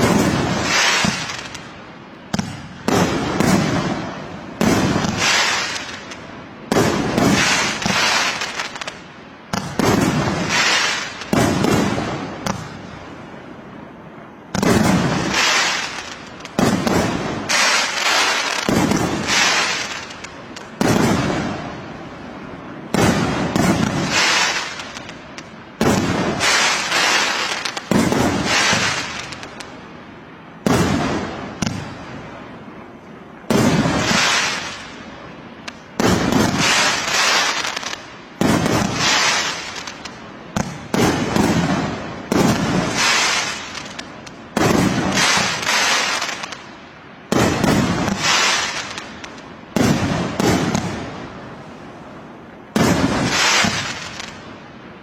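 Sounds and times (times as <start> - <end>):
fireworks bangs with crackling fizz: 0.0 - 13.6, 14.4 - 51.9, 52.6 - 55.0.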